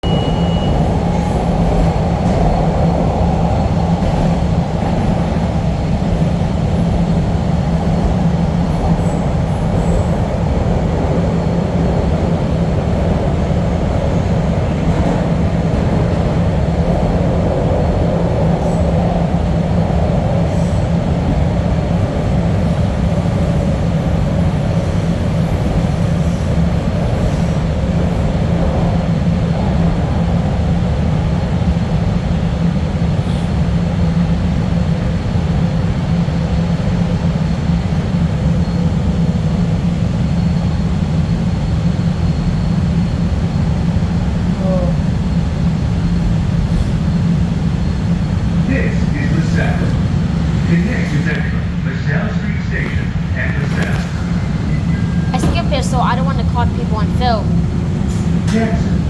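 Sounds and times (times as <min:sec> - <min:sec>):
subway train rumbling on rails: 0:00.0 - 0:59.0.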